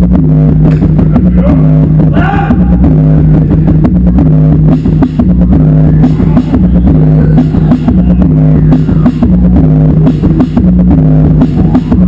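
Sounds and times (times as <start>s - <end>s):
distorted noise-rock riff: 0.0s - 12.0s
drum hits: 0.0s - 12.0s.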